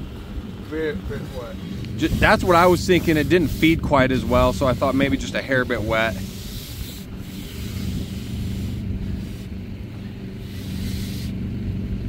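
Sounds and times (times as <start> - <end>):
small engine running steadily: 0.0 - 12.0
faint hiss: 0.7 - 11.4.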